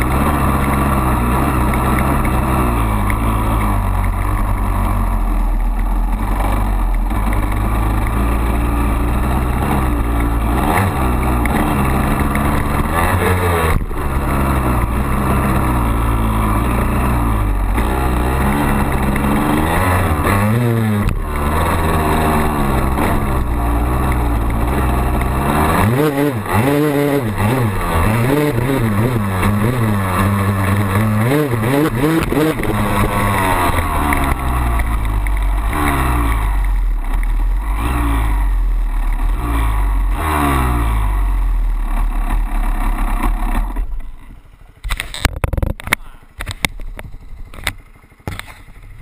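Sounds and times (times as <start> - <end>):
dirt bike engine revving: 0.0 - 45.7.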